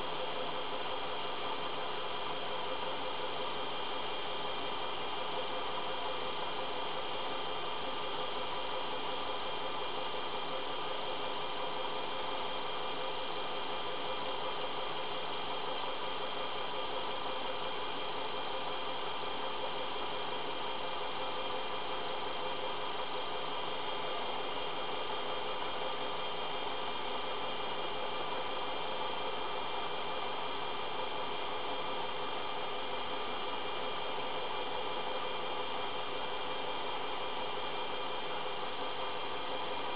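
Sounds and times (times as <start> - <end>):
lathe motor humming and whining: 0.0 - 39.9.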